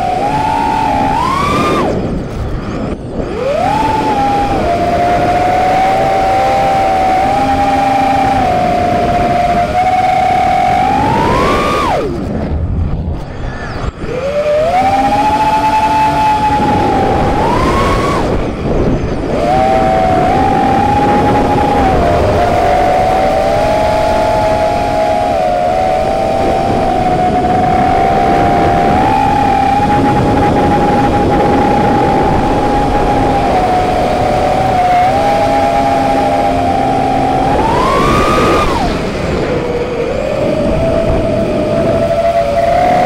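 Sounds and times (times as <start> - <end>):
quadcopter motors whining: 0.0 - 43.0
wind rush: 0.0 - 43.0.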